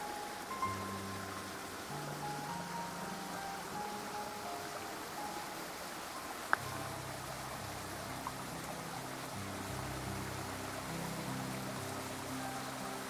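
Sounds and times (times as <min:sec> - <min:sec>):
creek running water: 0:00.0 - 0:13.0
soft background music: 0:00.0 - 0:13.0.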